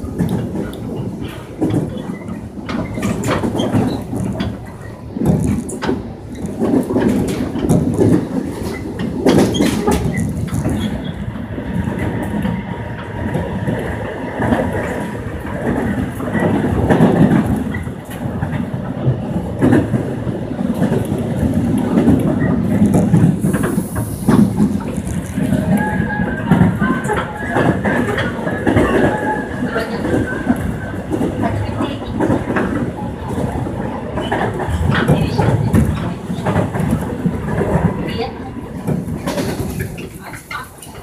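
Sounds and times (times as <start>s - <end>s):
train rumbling on rails: 0.0s - 41.0s
wheels clacking over rail joints: 0.0s - 41.0s.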